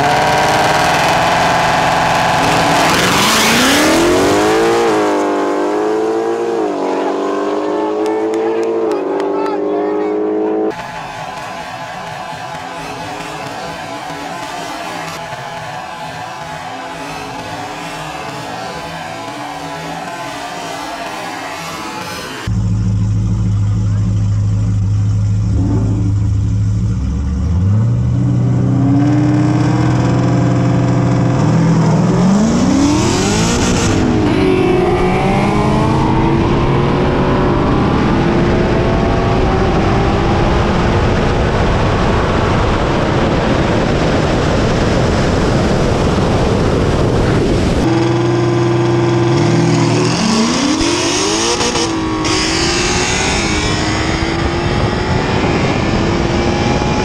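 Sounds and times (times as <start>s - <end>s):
car engines revving and accelerating: 0.0s - 57.0s.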